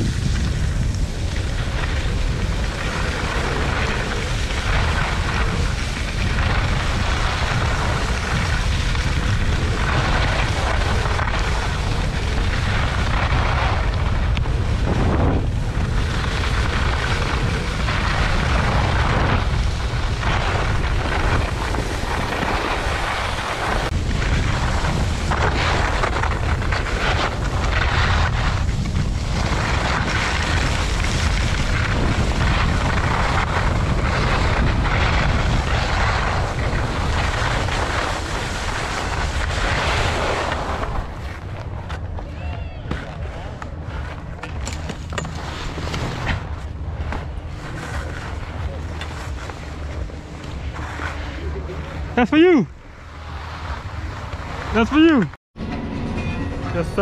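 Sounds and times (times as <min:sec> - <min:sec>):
wind buffeting microphone: 0:00.0 - 0:50.9
skis sliding on packed snow: 0:00.0 - 0:55.4.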